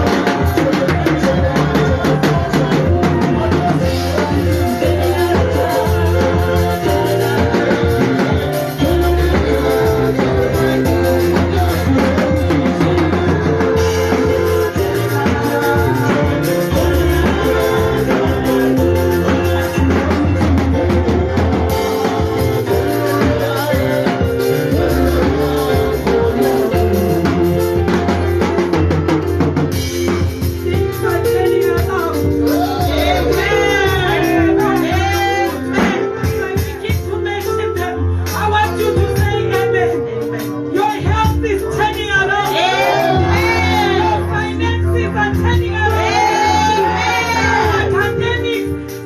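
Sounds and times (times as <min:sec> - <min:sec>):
drum kit and bass beat: 0:00.0 - 0:49.0
sustained keyboard chords: 0:00.0 - 0:49.0.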